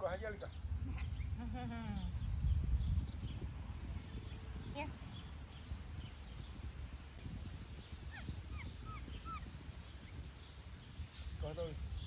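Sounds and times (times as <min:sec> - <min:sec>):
high chirping calls: 0:00.0 - 0:12.0
steady low rumble: 0:00.0 - 0:12.0.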